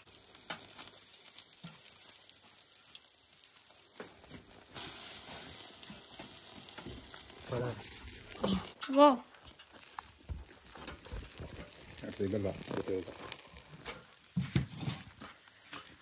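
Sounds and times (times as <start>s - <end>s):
meat and vegetables sizzling on grill: 0.0s - 16.0s.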